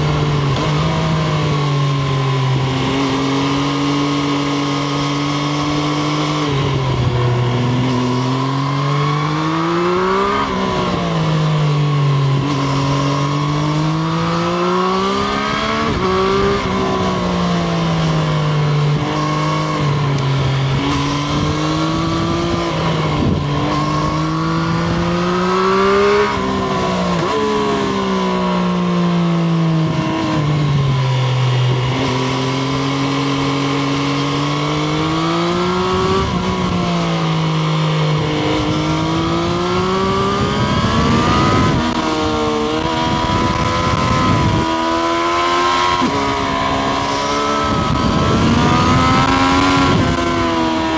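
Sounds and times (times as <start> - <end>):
wind noise: 0.0 - 28.1, 29.8 - 37.4, 38.0 - 50.9
motorcycle engine accelerating: 0.0 - 50.9.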